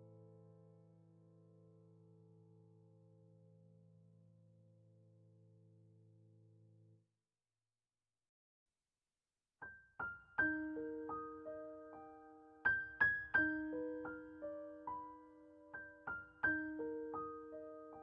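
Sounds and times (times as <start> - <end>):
soft piano music: 0.0 - 6.7, 9.6 - 18.0.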